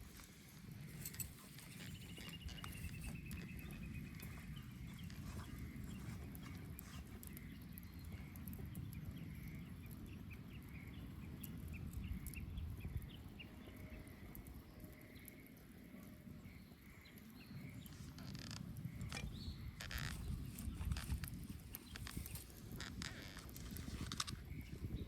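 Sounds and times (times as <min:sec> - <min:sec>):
bonfire crackling and popping: 0:00.0 - 0:25.0
fire low rumble: 0:00.0 - 0:25.0.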